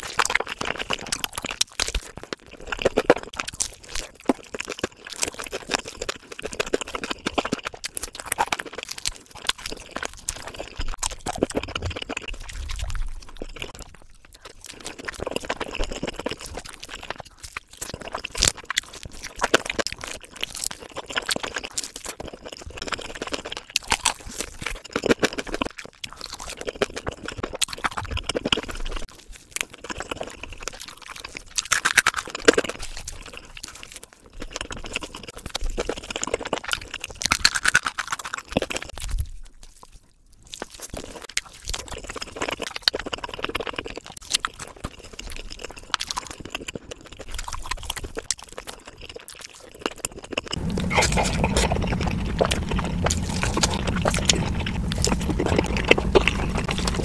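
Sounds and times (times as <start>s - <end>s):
wet chewing and smacking: 0.0s - 57.0s.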